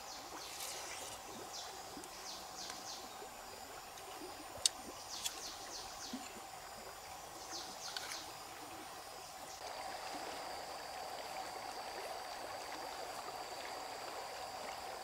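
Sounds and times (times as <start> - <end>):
steady forest hiss: 0.0 - 15.0.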